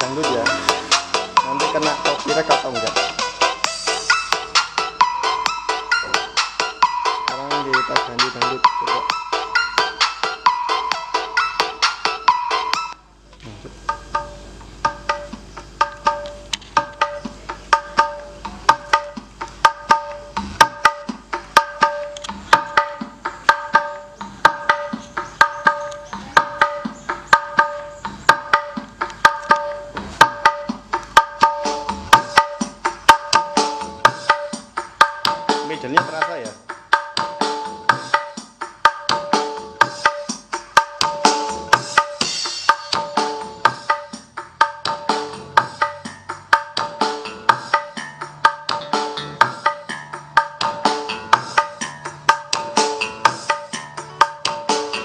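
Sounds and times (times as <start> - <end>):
dangdut music with drum beat: 0.0 - 55.0.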